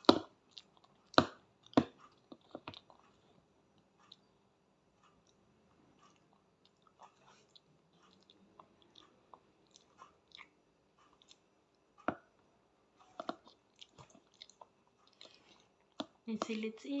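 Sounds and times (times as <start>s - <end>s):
child chewing food: 0.0s - 17.0s.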